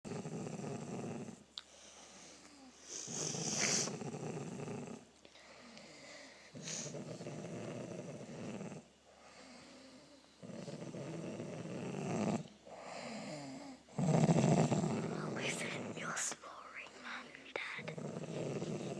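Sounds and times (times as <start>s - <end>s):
people snoring: 0.1s - 1.4s, 2.3s - 17.1s, 17.8s - 18.9s
quiet breathing: 1.3s - 18.9s.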